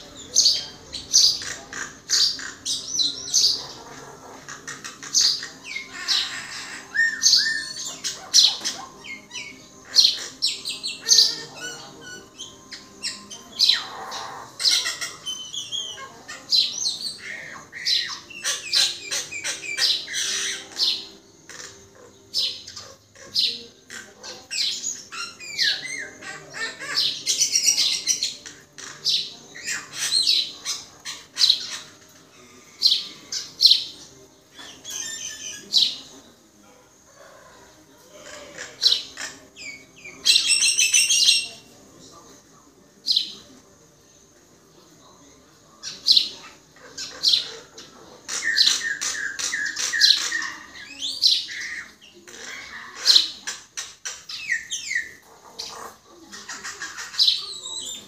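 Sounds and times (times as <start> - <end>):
myna calling: 0.0 - 41.8, 45.8 - 58.0.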